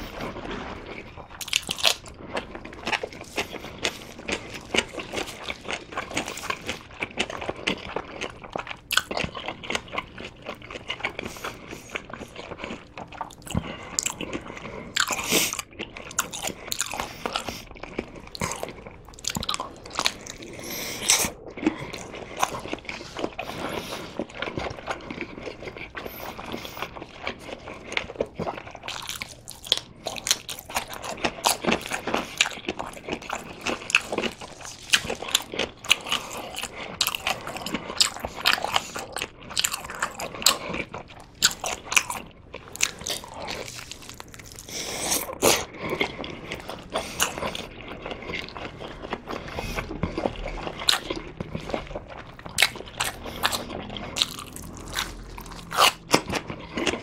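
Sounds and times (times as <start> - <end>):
biting and chewing sausage: 0.0 - 57.0.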